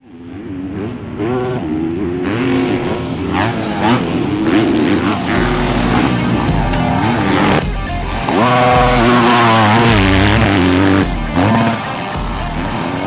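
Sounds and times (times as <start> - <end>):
dirt bike engines revving: 0.6 - 13.0.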